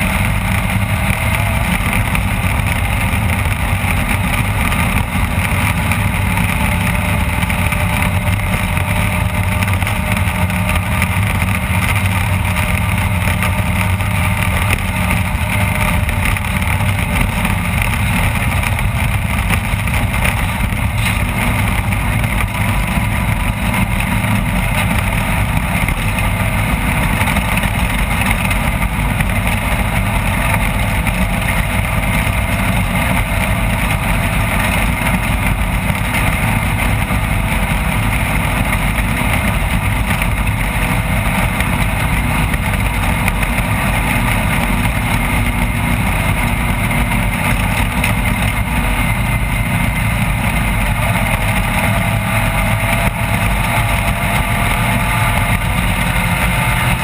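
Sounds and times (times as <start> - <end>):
engine droning loudly: 0.0 - 57.0.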